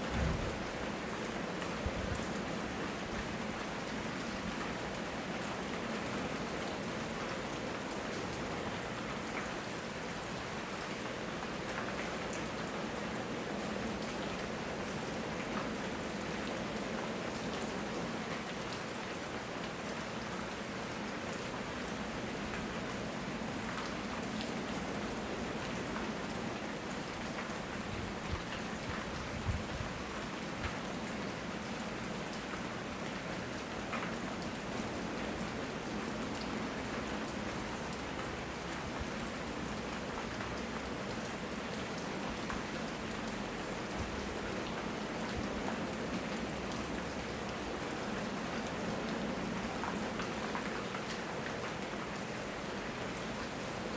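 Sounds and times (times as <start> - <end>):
rain falling: 0.0 - 53.9
raindrops ticking on surfaces: 0.0 - 53.9.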